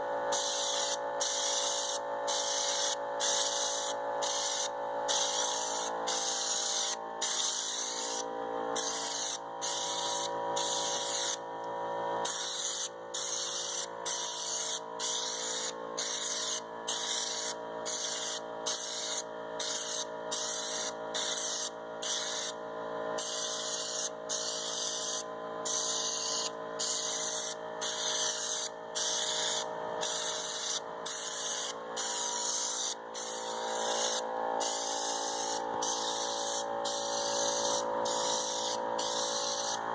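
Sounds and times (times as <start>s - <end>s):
spray gun hissing: 0.3s - 8.2s, 8.8s - 11.4s, 12.2s - 22.6s, 23.2s - 39.8s.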